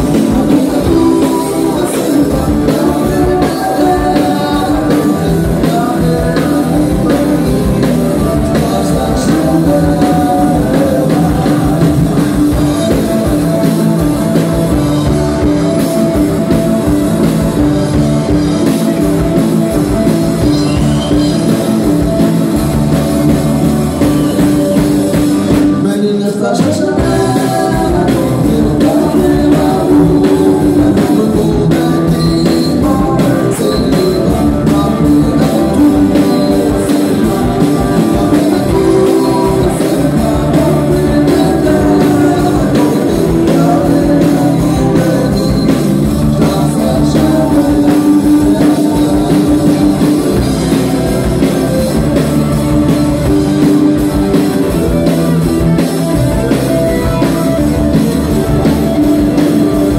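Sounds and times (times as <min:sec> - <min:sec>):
person singing: 0:00.0 - 0:14.6, 0:24.0 - 0:59.9
drum kit beat: 0:00.0 - 0:59.9
guitar: 0:00.0 - 0:59.9.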